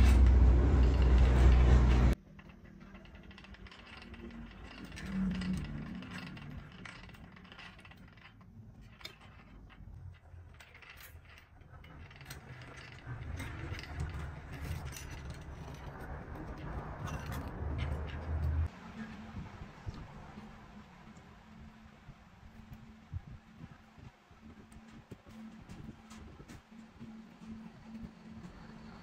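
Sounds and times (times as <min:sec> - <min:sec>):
machine low rumble: 0:00.0 - 0:29.0
rolling mill gears clicking: 0:00.0 - 0:29.0.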